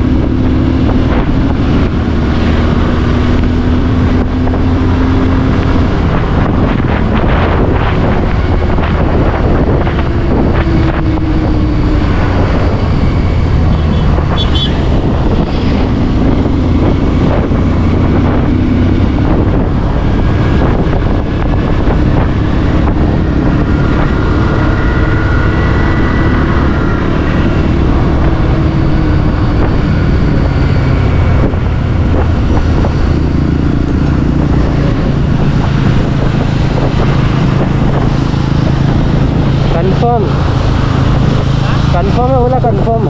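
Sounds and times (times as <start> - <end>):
wind noise on microphone: 0.0 - 43.0.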